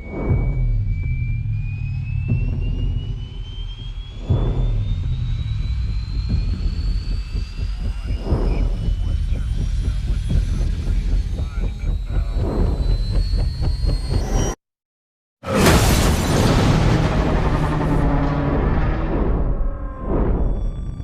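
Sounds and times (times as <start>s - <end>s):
deep aircraft engine rumble: 0.0s - 14.5s, 15.8s - 21.0s
thin rising whine: 0.0s - 14.6s, 15.5s - 21.0s.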